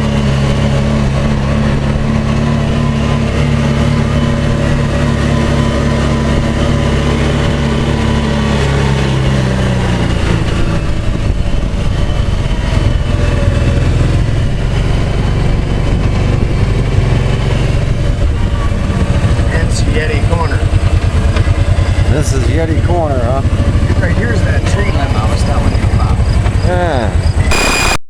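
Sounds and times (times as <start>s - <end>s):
vehicle engine running: 0.0s - 26.4s.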